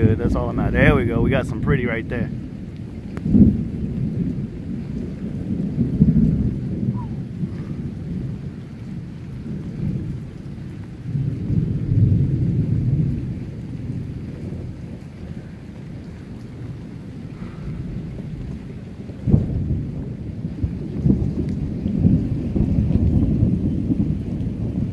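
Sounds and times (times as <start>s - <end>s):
thunder rumbling: 0.0s - 24.9s.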